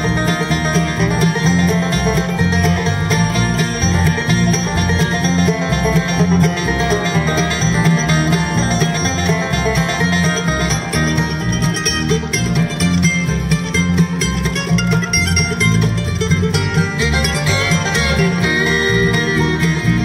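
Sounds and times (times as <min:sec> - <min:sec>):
bass line: 0:00.0 - 0:20.0
bluegrass band playing: 0:00.0 - 0:20.0
fast banjo picking: 0:00.0 - 0:20.0.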